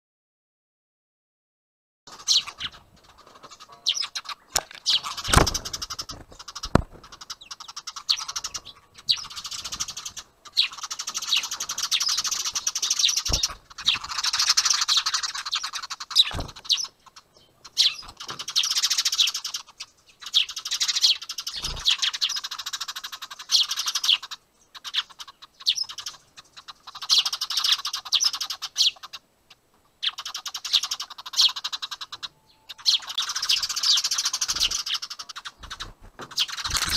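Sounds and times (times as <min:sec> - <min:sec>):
sparrows chirping and squawking: 0:02.1 - 0:36.9.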